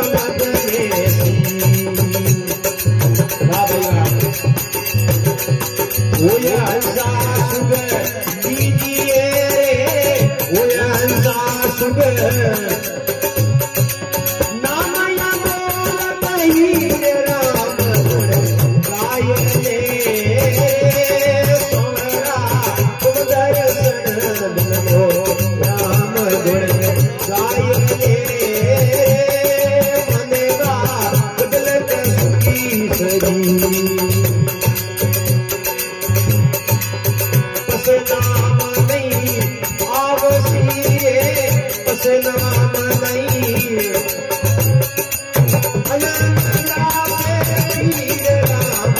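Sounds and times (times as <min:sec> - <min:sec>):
hand cymbals jingling: 0:00.0 - 0:48.9
harmonium melody: 0:00.0 - 0:48.9.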